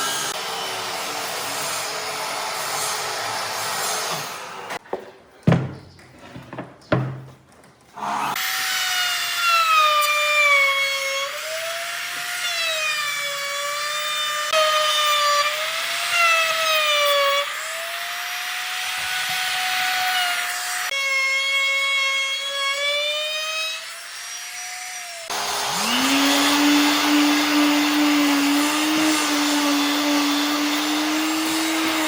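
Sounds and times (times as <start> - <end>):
power tool cutting wood: 0.0 - 4.8, 8.0 - 32.0.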